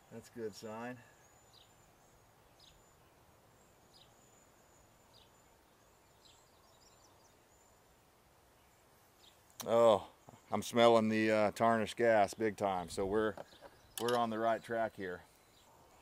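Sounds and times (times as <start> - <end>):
small bird chirping: 0.0 - 10.8, 12.2 - 16.0.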